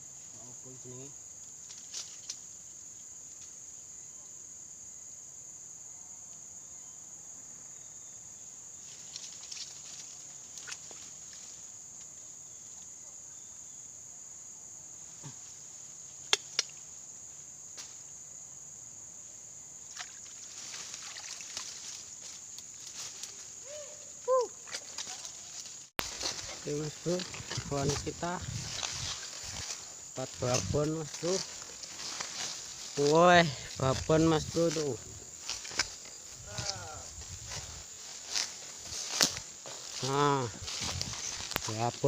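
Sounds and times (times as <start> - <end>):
crickets and insects chirping: 0.0 - 42.0.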